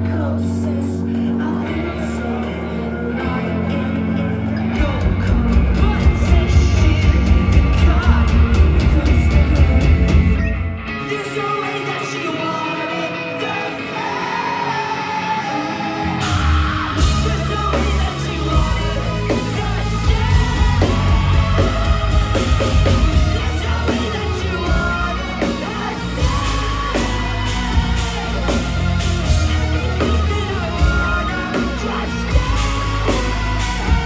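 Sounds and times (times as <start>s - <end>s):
sung and yelled vocals: 0.0s - 34.0s
live rock band playing loud: 1.1s - 34.0s.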